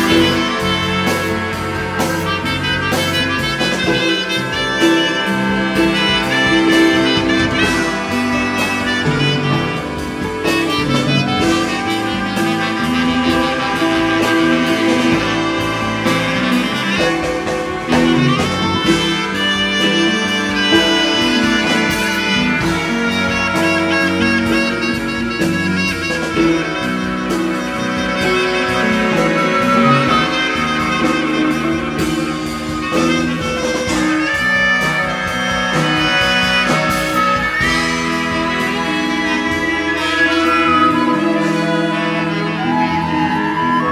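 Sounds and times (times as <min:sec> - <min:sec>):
jazz ensemble playing: 0:00.0 - 0:43.9
steady drum beat: 0:00.0 - 0:43.9.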